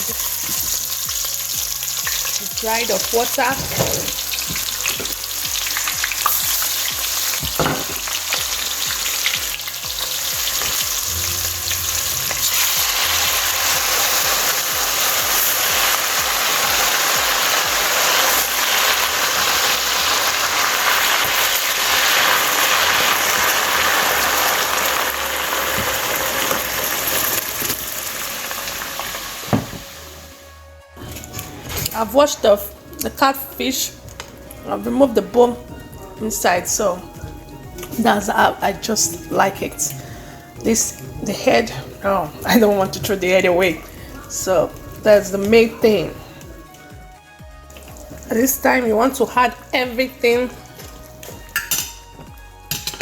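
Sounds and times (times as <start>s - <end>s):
tomatoes sizzling in oil: 0.0s - 30.5s, 36.3s - 53.0s.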